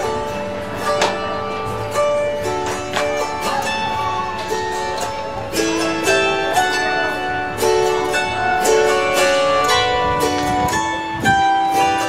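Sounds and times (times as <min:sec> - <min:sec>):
autoharp strummed chords: 0:00.0 - 0:12.0.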